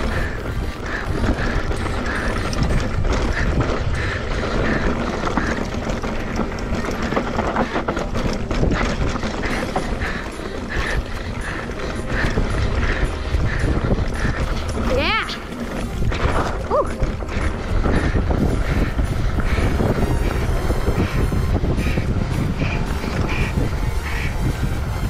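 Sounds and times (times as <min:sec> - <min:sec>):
bike clicking and rattling: 0:00.0 - 0:25.0
tyres on dirt: 0:00.0 - 0:25.0
wind rushing on camera: 0:00.0 - 0:25.0.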